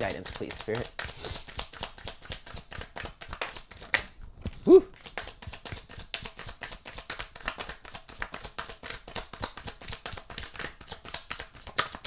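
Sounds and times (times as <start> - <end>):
card deck being shuffled: 0.0 - 12.0.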